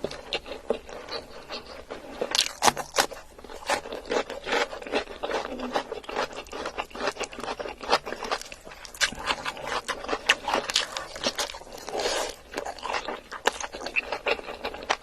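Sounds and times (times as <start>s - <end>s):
chewing with wet clicks and crunches: 0.0s - 15.0s.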